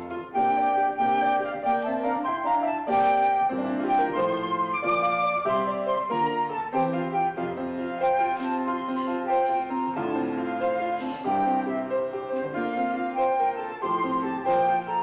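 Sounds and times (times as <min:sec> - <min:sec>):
flute-like melody: 0:00.0 - 0:15.0.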